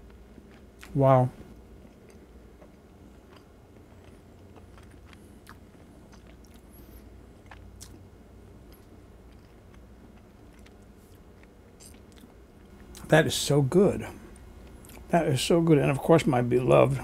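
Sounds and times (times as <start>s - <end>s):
man chewing with wet smacks: 0.0s - 13.1s, 14.2s - 15.1s.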